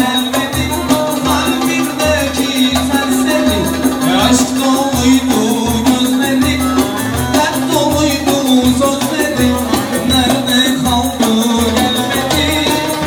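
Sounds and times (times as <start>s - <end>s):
live band dance tune: 0.0s - 13.0s.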